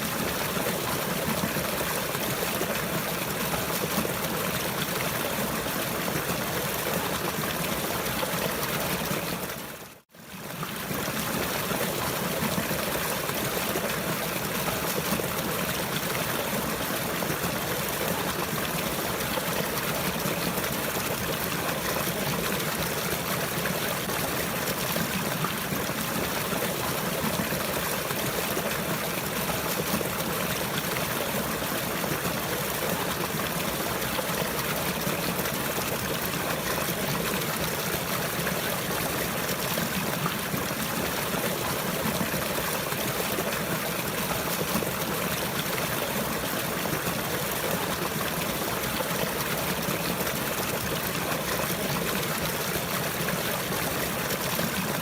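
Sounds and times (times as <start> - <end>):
trickling stream: 0.0 - 55.0.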